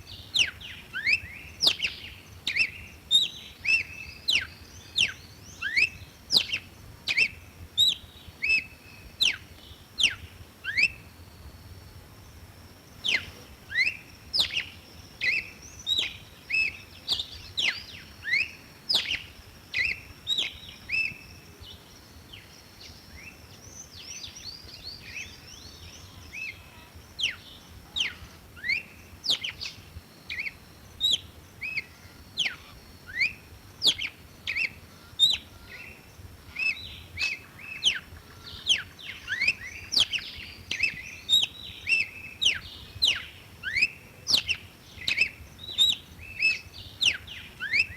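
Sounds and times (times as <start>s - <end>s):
bird singing whistled notes: 0.0s - 11.6s, 12.8s - 47.9s.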